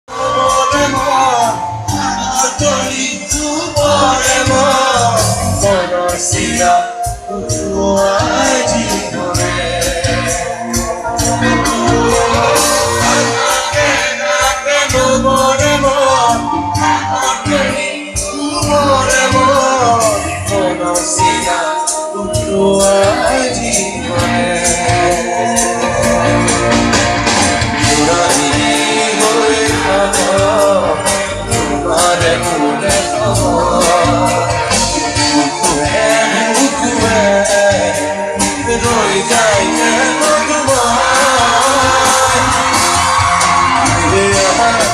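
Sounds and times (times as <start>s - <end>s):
live band music: 0.0s - 44.9s
gliding melody line: 0.1s - 44.9s
percussion: 0.1s - 44.9s
person singing: 0.1s - 44.9s.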